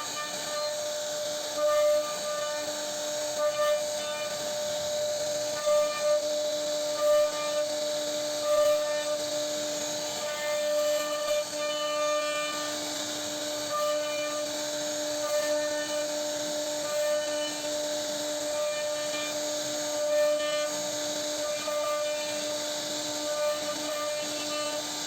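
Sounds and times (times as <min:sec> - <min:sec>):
bit cutting wood rasping: 0:00.0 - 0:25.0
router spindle whining: 0:00.0 - 0:25.0.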